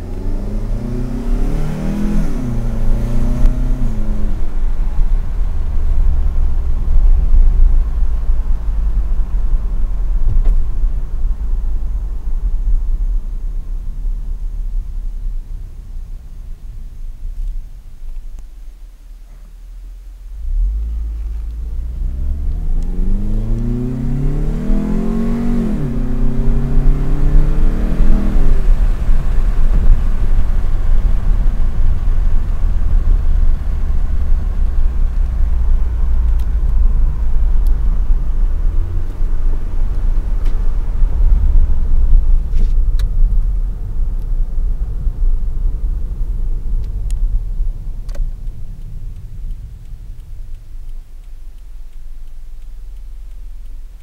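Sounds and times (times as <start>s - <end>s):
car engine accelerating: 0.0s - 17.6s, 20.2s - 54.0s.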